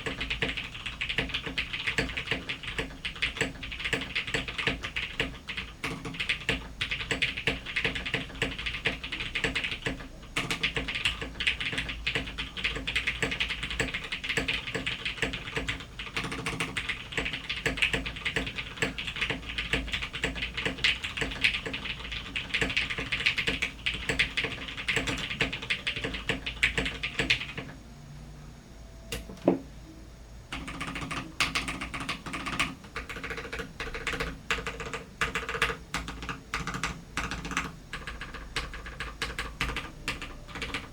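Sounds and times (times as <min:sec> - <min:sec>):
mechanical keyboard typing: 0:00.0 - 0:27.8, 0:30.5 - 0:40.9.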